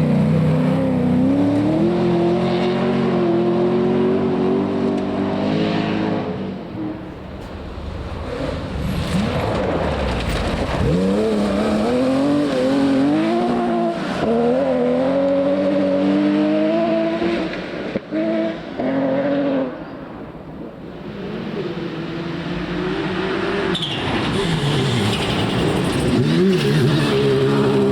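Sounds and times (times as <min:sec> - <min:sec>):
rally car engine at full throttle: 0:00.0 - 0:27.9.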